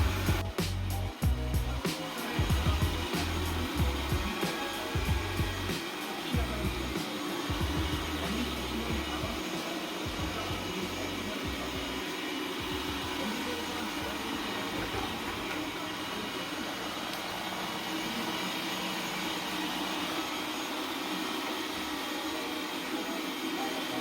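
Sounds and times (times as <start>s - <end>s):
robot cleaner motor whirring: 0.0s - 24.0s.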